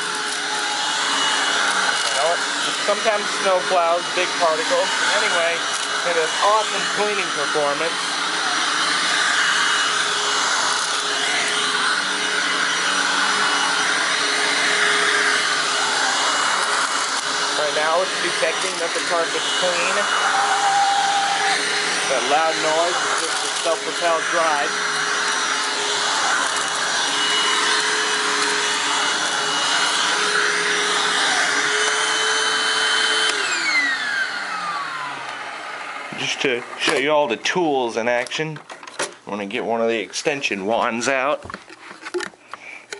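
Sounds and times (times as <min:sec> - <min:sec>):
upright vacuum running on carpet: 0:00.0 - 0:37.3.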